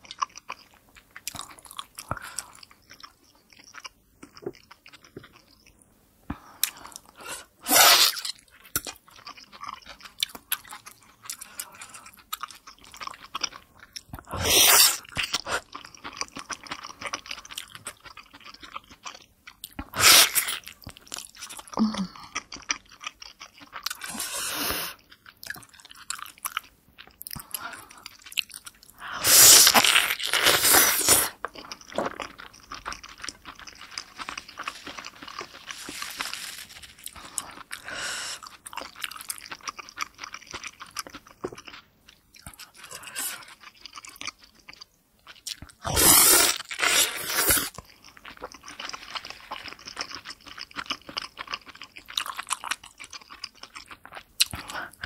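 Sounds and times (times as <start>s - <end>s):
chewing and biting food: 0.0s - 5.7s, 8.1s - 14.3s, 15.0s - 24.2s, 25.0s - 29.0s, 29.7s - 55.0s.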